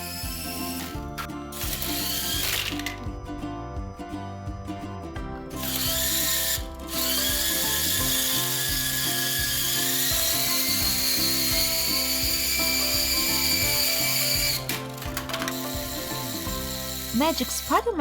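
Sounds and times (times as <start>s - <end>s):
toy drone motor whirring whine: 0.0s - 3.0s, 5.6s - 17.8s.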